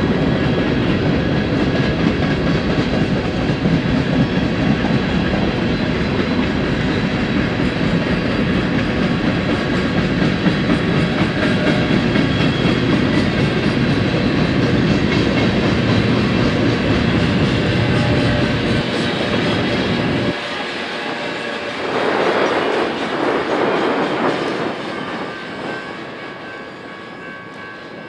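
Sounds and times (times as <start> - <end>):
freight cars rolling on rails: 0.0 - 28.0.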